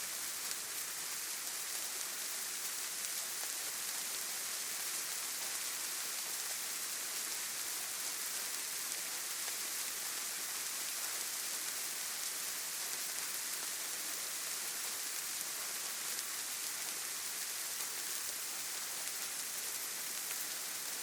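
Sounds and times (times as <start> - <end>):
rain falling on foliage: 0.0 - 21.0.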